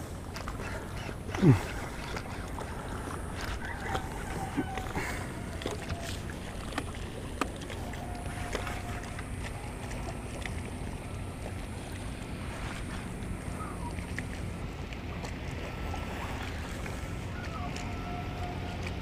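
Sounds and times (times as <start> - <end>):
water lapping against hull: 0.0 - 19.0.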